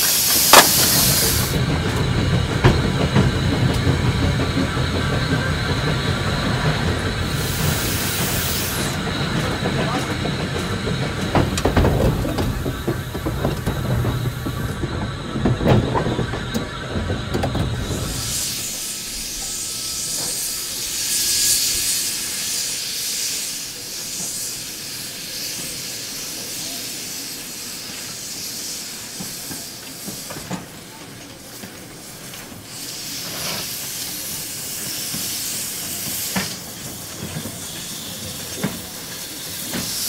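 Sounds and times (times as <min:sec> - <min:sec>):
steam hissing: 0:00.0 - 0:40.0
steam locomotive rumbling on rails: 0:00.0 - 0:40.0.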